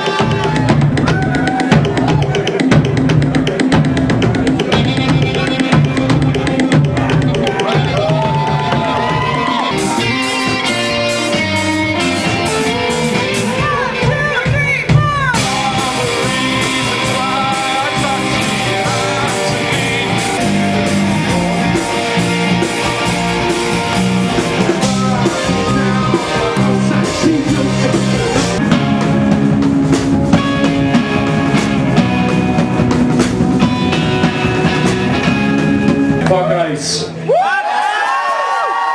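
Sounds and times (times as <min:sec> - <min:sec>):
electric guitar: 0:00.0 - 0:36.4
bass line: 0:00.0 - 0:37.3
drum kit: 0:00.0 - 0:37.9.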